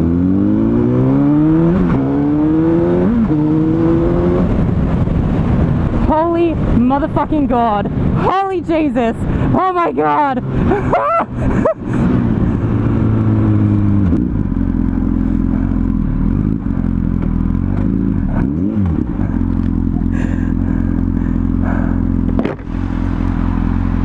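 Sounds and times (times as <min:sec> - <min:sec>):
motorcycle engine: 0:00.0 - 0:08.3, 0:09.1 - 0:24.0.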